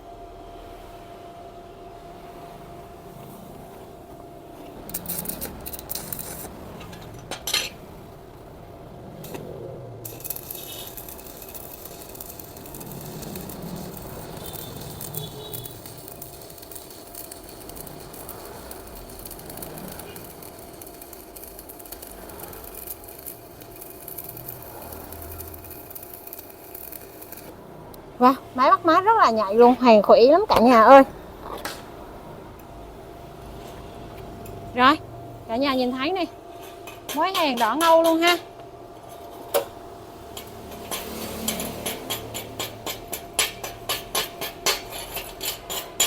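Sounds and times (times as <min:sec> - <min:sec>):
welding arc crackling: 0:02.9 - 0:46.0.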